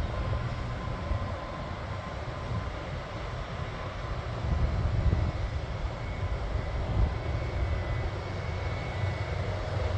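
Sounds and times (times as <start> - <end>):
distant airplane engine drone: 0.0 - 9.9.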